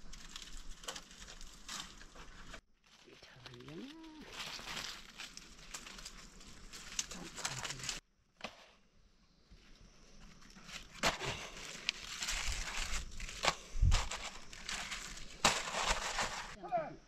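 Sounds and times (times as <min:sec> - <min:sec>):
rustling handling noise: 0:00.1 - 0:08.0, 0:10.2 - 0:16.6.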